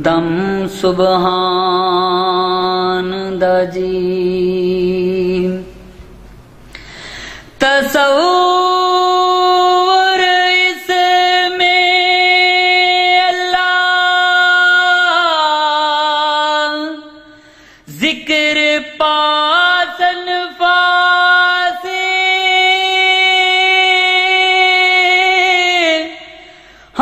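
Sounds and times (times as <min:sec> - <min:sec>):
man singing unaccompanied: 0:00.0 - 0:05.7, 0:07.6 - 0:17.2, 0:17.9 - 0:26.4.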